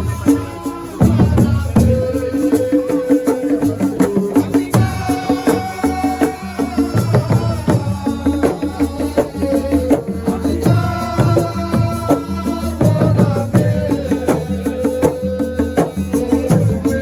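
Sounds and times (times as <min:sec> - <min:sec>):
fast hand percussion and rattles: 0:00.0 - 0:17.0.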